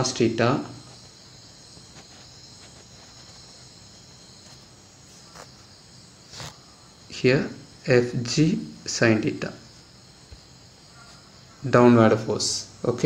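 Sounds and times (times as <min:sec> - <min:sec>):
background hiss: 0:00.0 - 0:13.0
insect chirring: 0:00.0 - 0:13.0.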